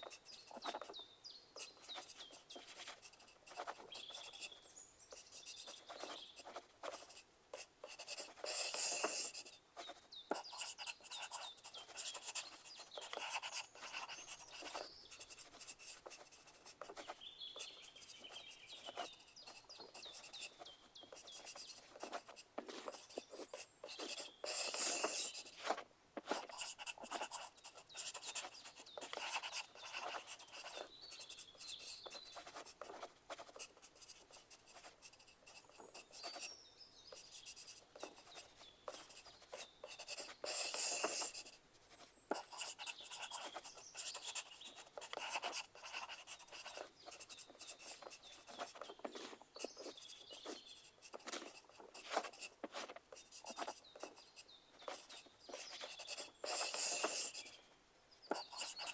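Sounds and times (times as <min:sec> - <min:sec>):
pencil writing on paper: 0:00.0 - 0:01.0, 0:01.6 - 0:57.6, 0:58.2 - 0:58.9.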